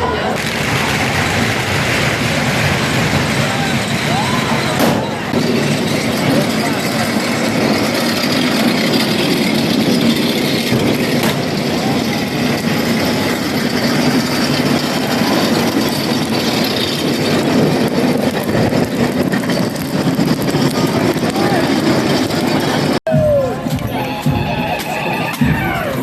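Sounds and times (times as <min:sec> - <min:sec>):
faint voices: 0:00.0 - 0:10.3, 0:11.0 - 0:18.2, 0:20.1 - 0:26.0
street crowd noise: 0:00.0 - 0:26.0.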